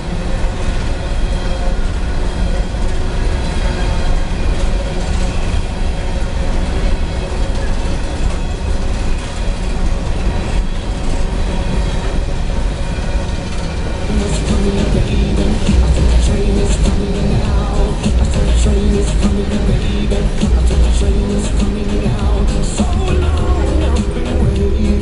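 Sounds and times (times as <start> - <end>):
train cars rolling on rails: 0.0 - 25.0.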